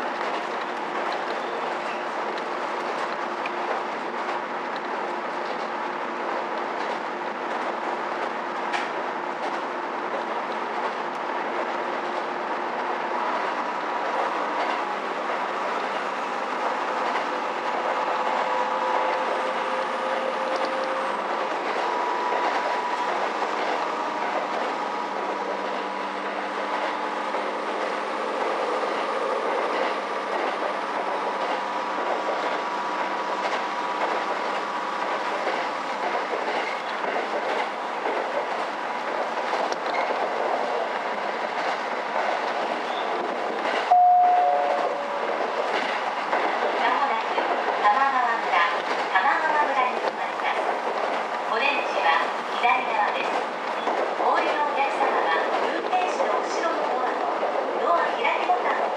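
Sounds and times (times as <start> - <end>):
railcar engine: 0.0 - 58.9
train wheels rumbling on rails: 0.0 - 58.9.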